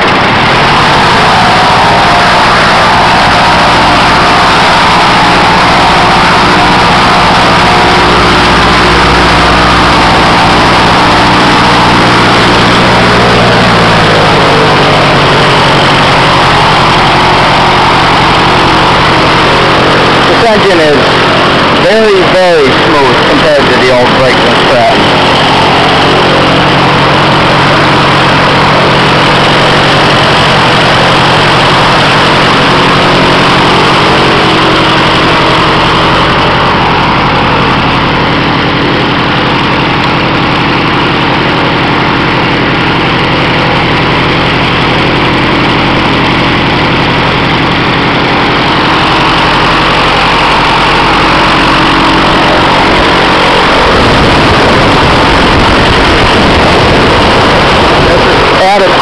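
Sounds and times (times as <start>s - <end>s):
airboat engine running steadily: 0.0s - 59.0s.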